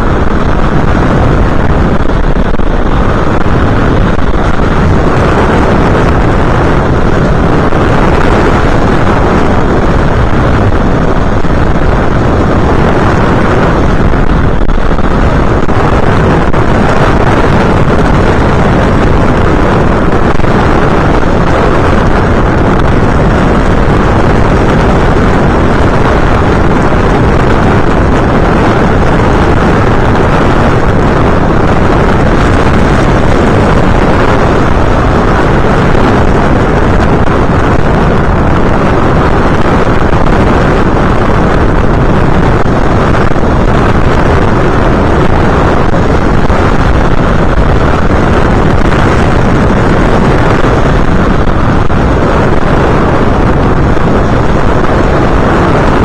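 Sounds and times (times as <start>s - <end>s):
motor and propeller noise: 0.0s - 56.0s
wind buffeting microphone: 0.0s - 56.0s.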